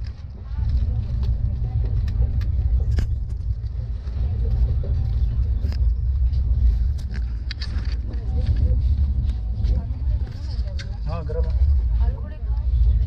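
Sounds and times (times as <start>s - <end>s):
train coach rumbling: 0.0s - 13.0s.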